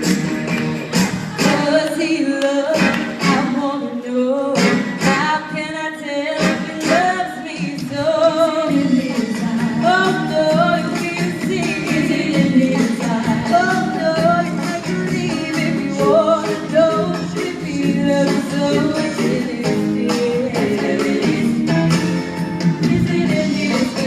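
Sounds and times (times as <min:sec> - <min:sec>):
live band with singing: 0:00.0 - 0:24.0.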